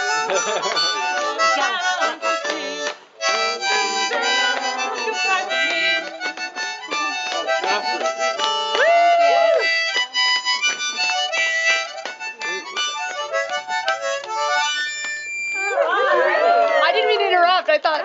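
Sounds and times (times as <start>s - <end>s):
harmonica playing: 0.0s - 16.2s.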